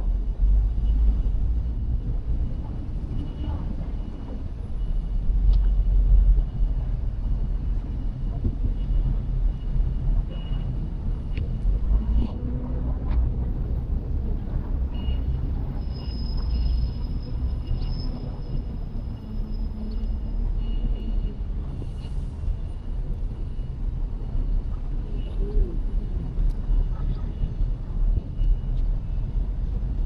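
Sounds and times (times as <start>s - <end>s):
vehicle traffic rumble: 0.0s - 30.0s.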